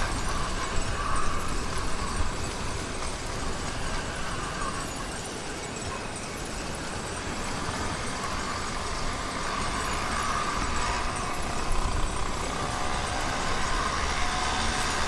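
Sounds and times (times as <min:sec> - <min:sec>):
low rumble of riding: 0:00.0 - 0:15.0.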